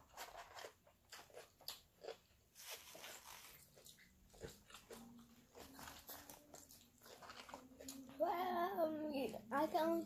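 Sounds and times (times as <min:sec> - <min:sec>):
soft chewing and mouth noises: 0:00.0 - 0:10.0.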